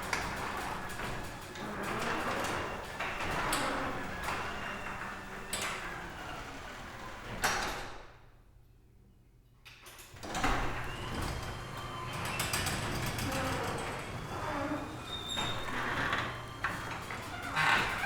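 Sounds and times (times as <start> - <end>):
garage door rattling rumble: 0.0 - 8.0, 10.2 - 18.0.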